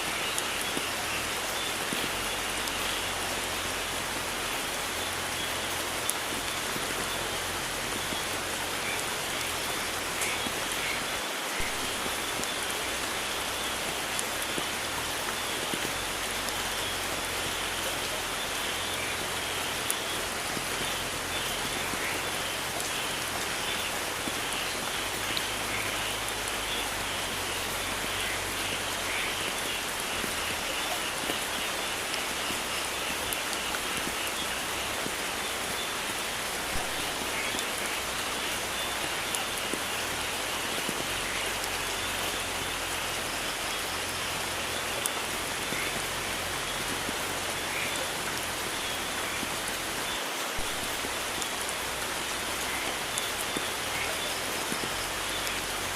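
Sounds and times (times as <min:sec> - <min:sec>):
raindrops ticking: 0:00.0 - 0:55.9
steady rain falling: 0:00.0 - 0:55.9.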